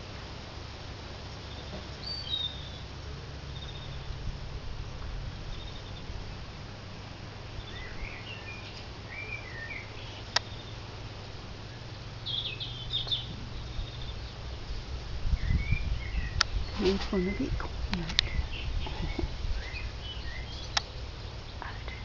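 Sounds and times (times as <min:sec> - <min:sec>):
steady low rumble: 0:00.0 - 0:22.0
small birds chirping and singing: 0:01.3 - 0:22.0.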